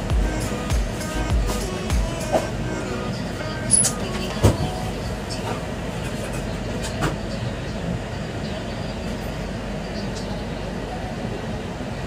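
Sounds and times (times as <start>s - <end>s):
train rumbling and rattling: 0.0s - 12.0s.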